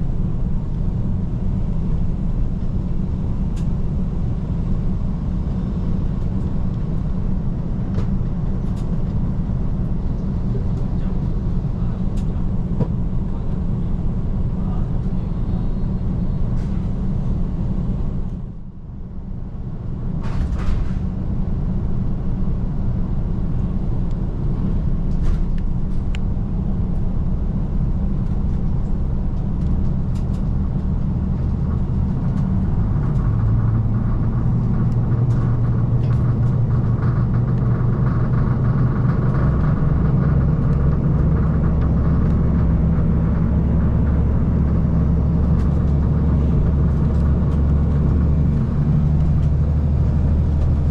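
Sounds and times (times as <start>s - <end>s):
diesel engine drone: 0.0s - 50.9s
wheel and rail rumble: 0.0s - 50.9s.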